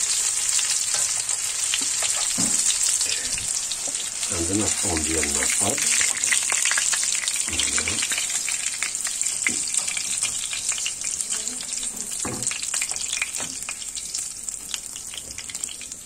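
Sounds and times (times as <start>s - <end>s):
fish frying in a pot: 0.0s - 16.0s.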